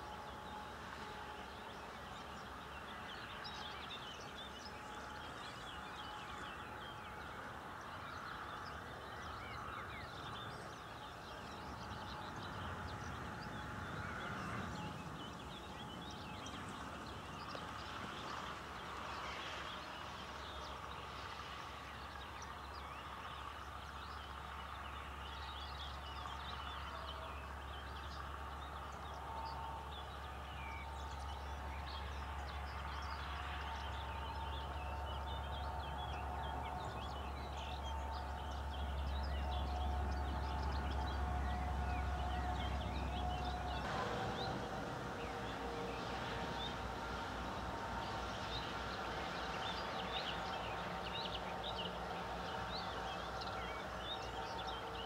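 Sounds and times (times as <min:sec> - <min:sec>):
birds chirping in dawn chorus: 0:00.0 - 0:55.0.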